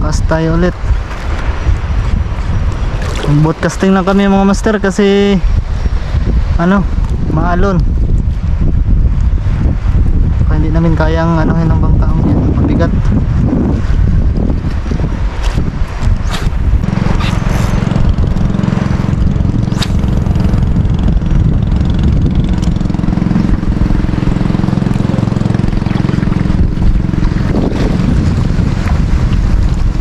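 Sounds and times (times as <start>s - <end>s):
boat engine running: 0.0s - 10.4s, 11.6s - 30.0s
wind buffeting microphone: 0.0s - 30.0s.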